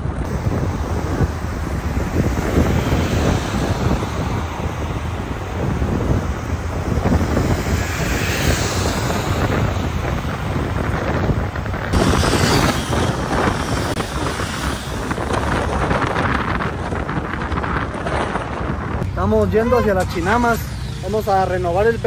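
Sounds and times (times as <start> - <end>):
wind on microphone: 0.0 - 19.2
van road noise: 0.0 - 22.0.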